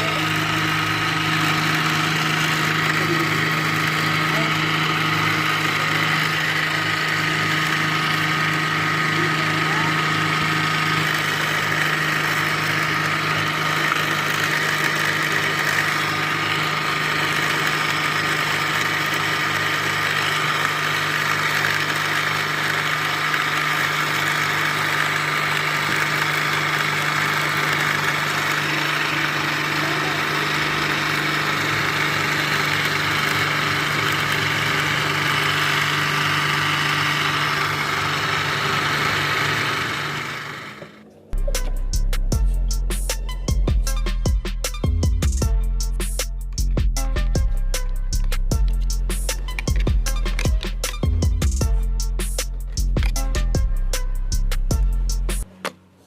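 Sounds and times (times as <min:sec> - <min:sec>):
motor spinning slicer humming: 0:00.0 - 0:56.0.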